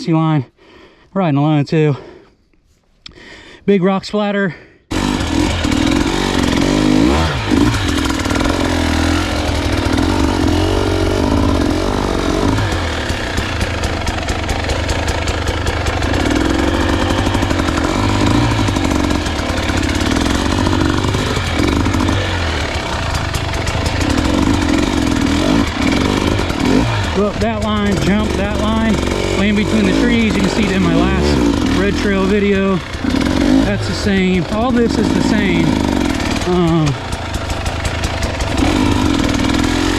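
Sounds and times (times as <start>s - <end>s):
dirt bike engine revving: 4.9s - 39.9s.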